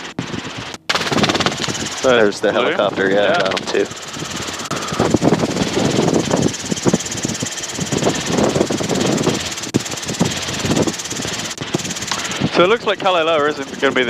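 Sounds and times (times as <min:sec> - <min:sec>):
helicopter engine and rotor noise: 0:00.0 - 0:14.0.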